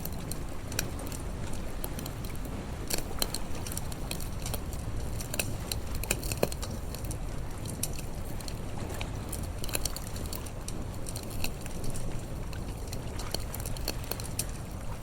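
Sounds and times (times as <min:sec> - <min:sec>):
campfire crackling: 0:00.0 - 0:15.0
fire pops and snaps: 0:00.0 - 0:15.0.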